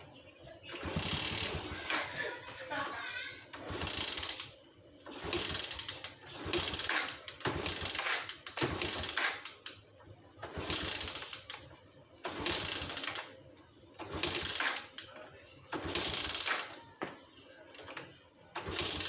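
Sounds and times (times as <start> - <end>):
motorcycle engine cranking: 0.6 - 13.4, 14.0 - 17.0, 17.7 - 19.0.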